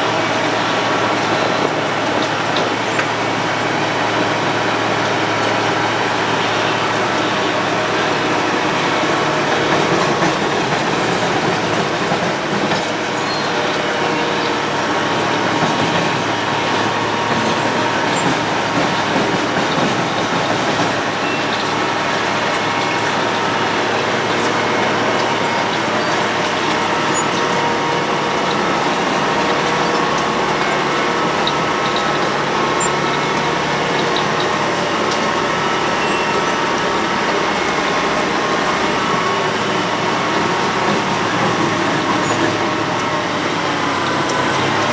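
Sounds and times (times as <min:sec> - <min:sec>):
diesel engine: 0:00.0 - 0:44.9
milling drum grinding: 0:00.1 - 0:44.9.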